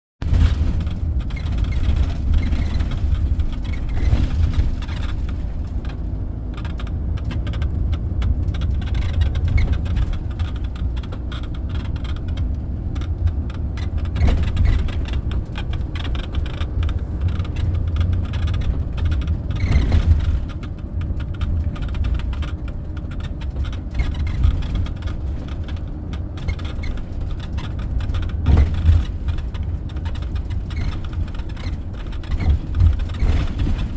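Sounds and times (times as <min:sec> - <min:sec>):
vehicle body rattles and squeaks: 0:00.2 - 0:33.9
vehicle driving rumble: 0:00.2 - 0:33.9.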